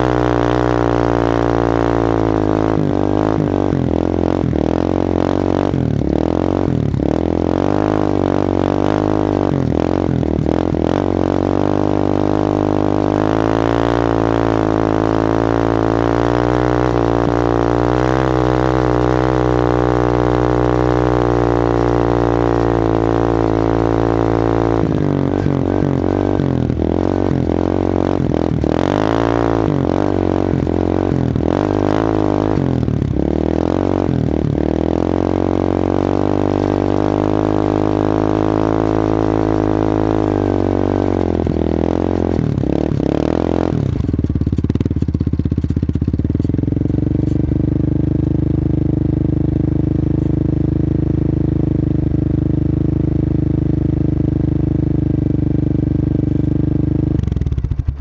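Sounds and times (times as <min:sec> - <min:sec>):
atv engine running under load: 0:00.0 - 0:58.0.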